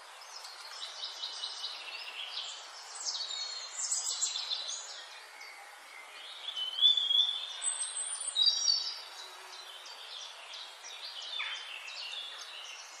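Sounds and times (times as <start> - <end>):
background hiss: 0.0 - 13.0
small birds singing: 0.0 - 13.0.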